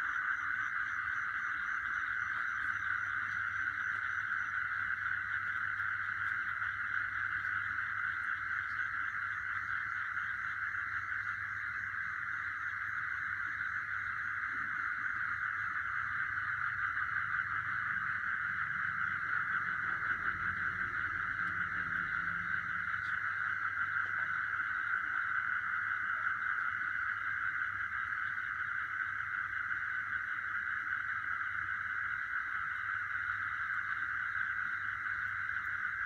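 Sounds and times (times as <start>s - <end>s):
night insects trilling: 0.0s - 36.0s.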